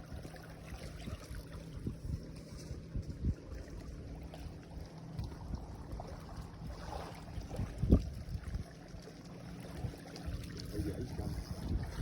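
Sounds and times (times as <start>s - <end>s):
wind rumbling on microphone: 0.0s - 9.0s, 9.6s - 12.0s.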